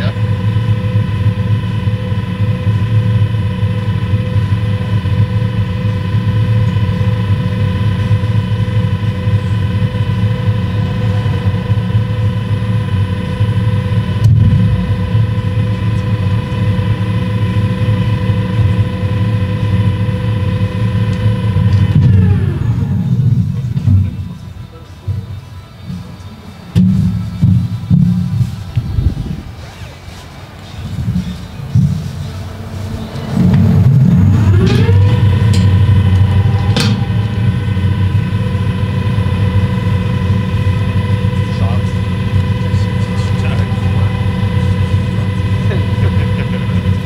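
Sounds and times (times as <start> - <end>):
drone propellers whining: 0.0 - 47.0.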